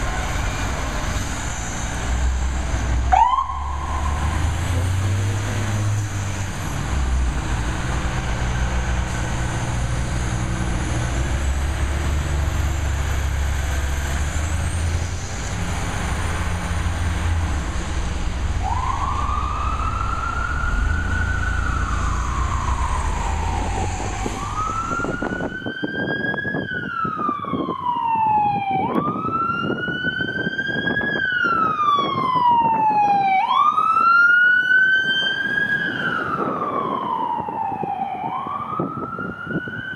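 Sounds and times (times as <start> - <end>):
diesel engine rumble: 0.0 - 39.9
fire truck sirens wailing: 0.0 - 39.9.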